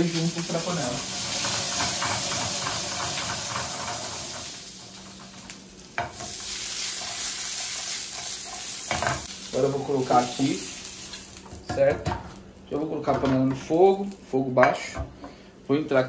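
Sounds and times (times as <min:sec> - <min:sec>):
onions sizzling in a frying pan: 0:00.0 - 0:16.0.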